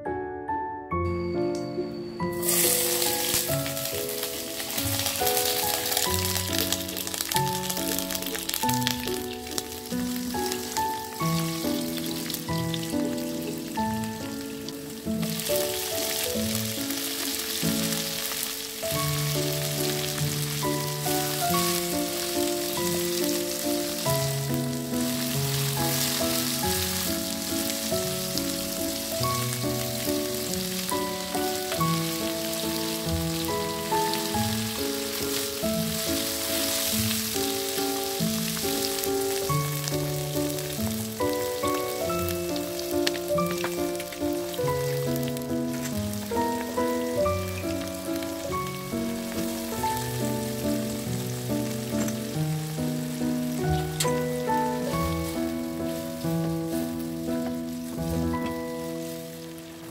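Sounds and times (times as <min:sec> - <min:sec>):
background music with held notes: 0:00.0 - 0:59.9
vegetables sizzling in a wok: 0:01.7 - 0:59.9.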